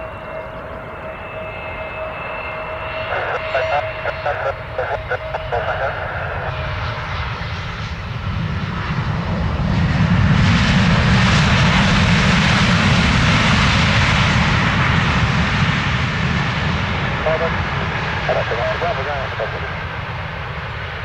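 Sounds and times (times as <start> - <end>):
plane engine rumble: 0.0 - 21.0.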